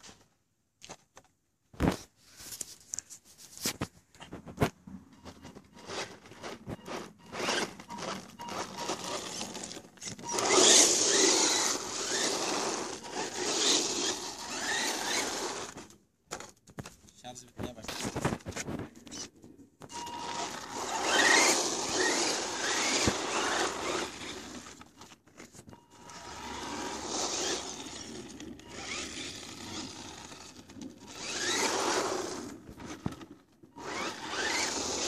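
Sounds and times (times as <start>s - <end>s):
clicks and scrapes: 0.0s - 35.0s
rc truck sliding over sandy dirt: 4.5s - 16.0s, 17.7s - 35.0s.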